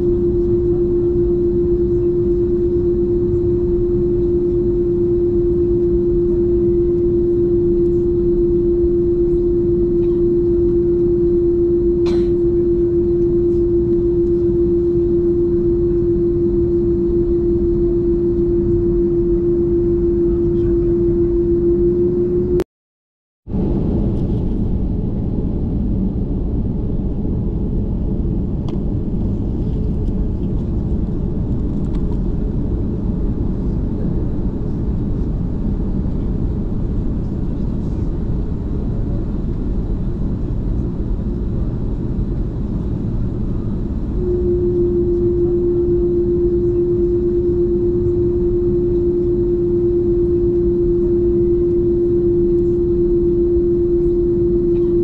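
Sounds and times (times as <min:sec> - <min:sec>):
jet engines rumbling: 0:00.0 - 0:22.6, 0:23.5 - 0:55.0
steady hum: 0:00.0 - 0:22.7, 0:23.5 - 0:55.0.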